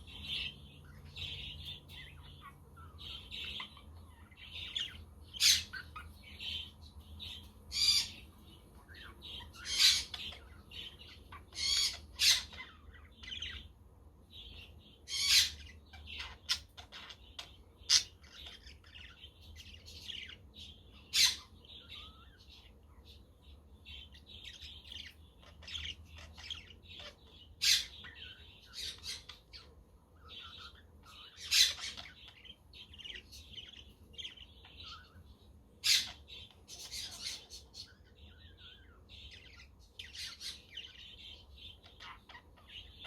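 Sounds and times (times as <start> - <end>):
budgerigars chirping and warbling: 0.0 - 43.0.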